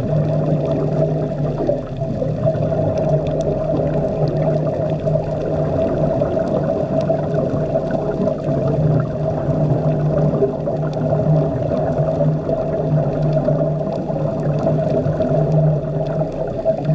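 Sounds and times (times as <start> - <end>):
underwater drone with hum tones: 0.0 - 16.9
watery gurgling and clicks: 0.0 - 16.9.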